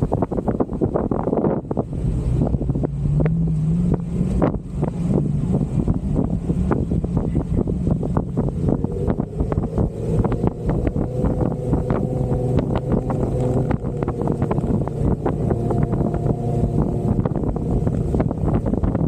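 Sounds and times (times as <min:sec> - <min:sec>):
car engine running: 0:00.8 - 0:19.0.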